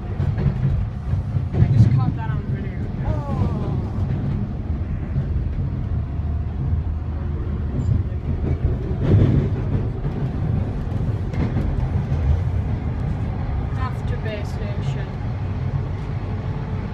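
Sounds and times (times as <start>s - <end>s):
subway train rumbling in tunnel: 0.0s - 16.9s
wheels on rails: 0.0s - 16.9s.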